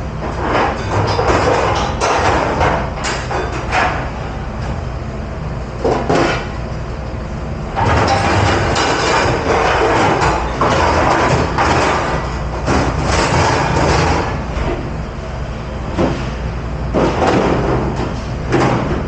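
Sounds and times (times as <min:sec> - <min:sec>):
loud rushing washing noise: 0:00.0 - 0:19.0
low machine hum: 0:00.0 - 0:19.0.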